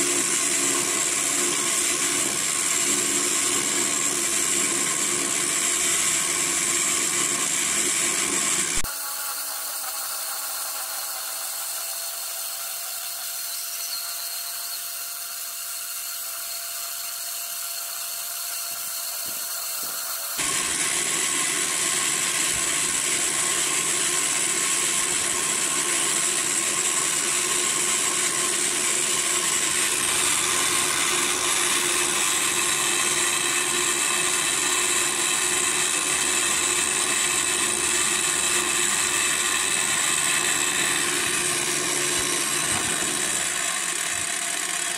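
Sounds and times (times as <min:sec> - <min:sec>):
drill motor whine: 0:00.0 - 0:44.9
end mill cutting metal: 0:00.0 - 0:44.9.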